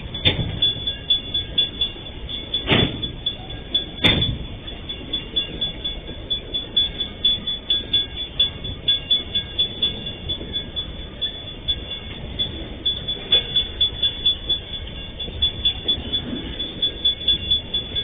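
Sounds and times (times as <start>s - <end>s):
freight train rumbling: 0.0s - 18.0s
train wheels clacking: 0.0s - 18.0s.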